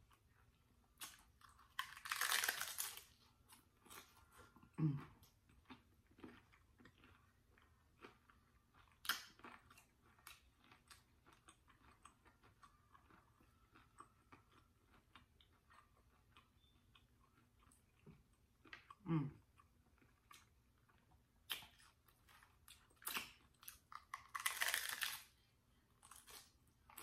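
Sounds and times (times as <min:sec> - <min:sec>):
close-up chewing: 0:00.0 - 0:27.0.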